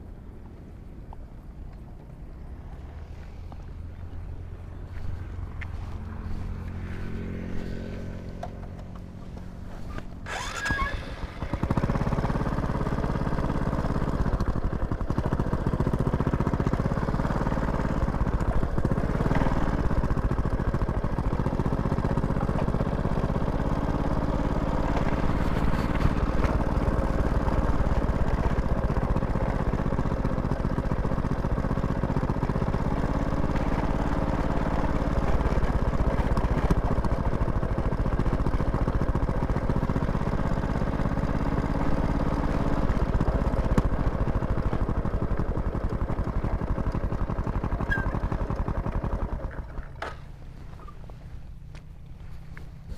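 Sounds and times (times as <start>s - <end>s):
engine droning: 0.0s - 52.9s.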